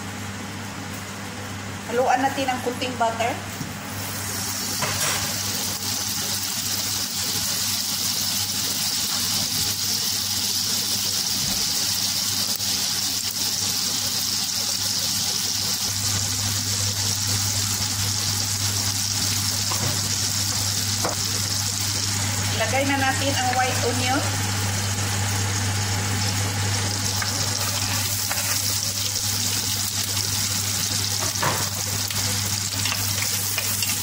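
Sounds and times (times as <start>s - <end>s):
butter sizzling in hot oil: 3.9s - 34.0s.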